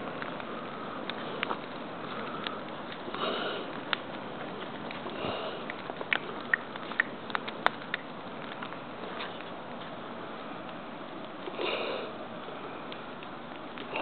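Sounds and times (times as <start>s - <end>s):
bonfire hissing: 0.0s - 14.0s
burning wood popping and crackling: 0.0s - 14.0s.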